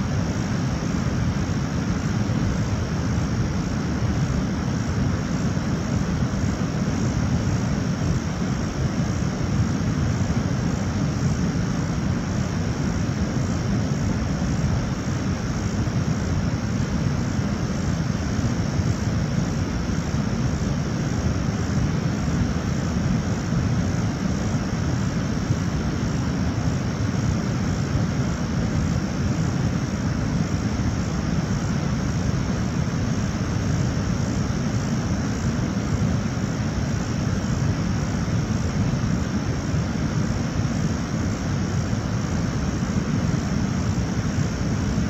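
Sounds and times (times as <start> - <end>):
waterfall roar: 0.0 - 45.0.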